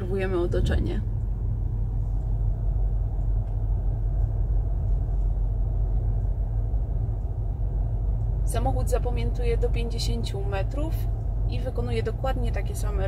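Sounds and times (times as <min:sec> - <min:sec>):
car engine rumbling inside cabin: 0:00.0 - 0:13.0.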